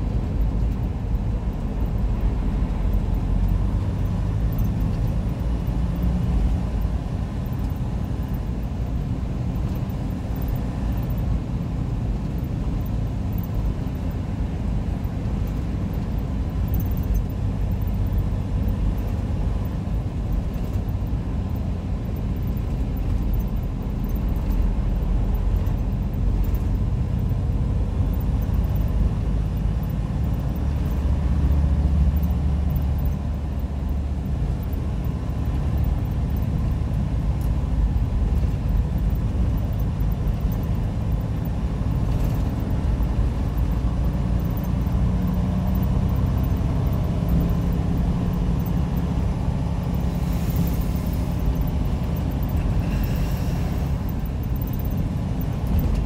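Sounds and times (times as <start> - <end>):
truck engine and tyres rumbling: 0.0 - 56.0.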